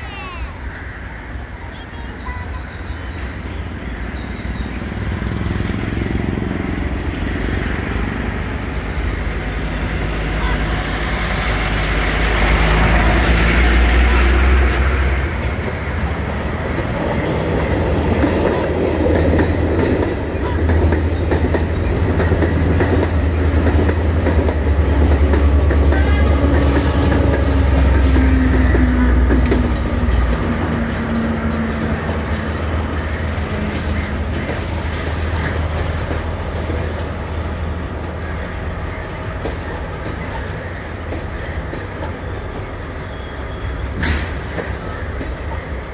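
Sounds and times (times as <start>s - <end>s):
train wheels on rails: 0.0s - 45.9s.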